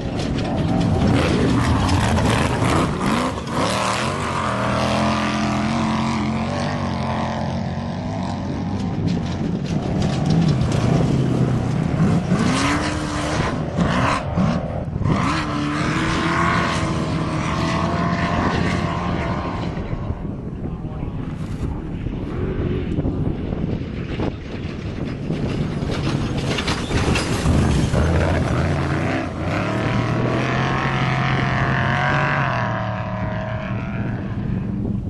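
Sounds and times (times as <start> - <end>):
race vehicle engines passing: 0.0 - 35.0.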